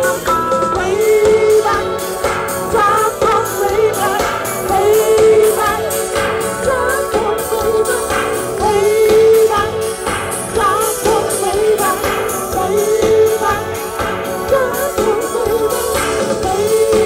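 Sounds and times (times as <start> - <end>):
drums: 0.0 - 17.0
live pop band playing: 0.0 - 17.0.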